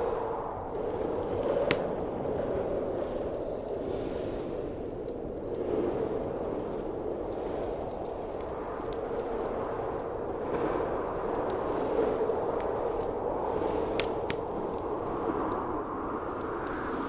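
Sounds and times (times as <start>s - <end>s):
howling blizzard wind: 0.0s - 17.0s
wood fire crackling: 0.0s - 17.0s.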